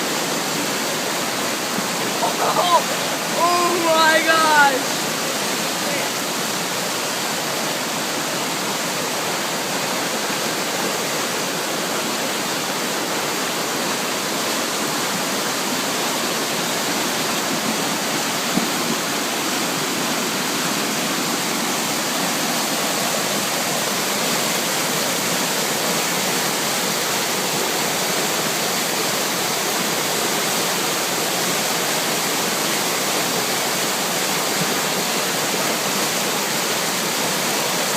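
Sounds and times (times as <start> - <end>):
floodwater rushing: 0.0 - 37.9.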